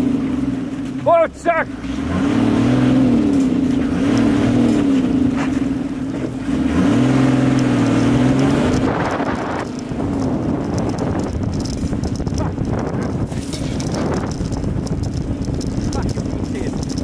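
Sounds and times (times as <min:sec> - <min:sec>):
vehicle engine driven hard: 0:00.0 - 0:17.0.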